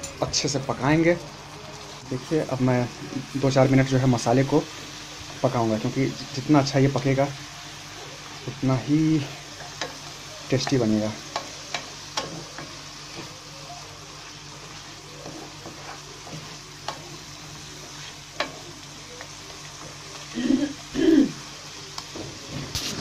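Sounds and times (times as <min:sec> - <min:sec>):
masala sizzling in hot oil: 0:00.0 - 0:23.0.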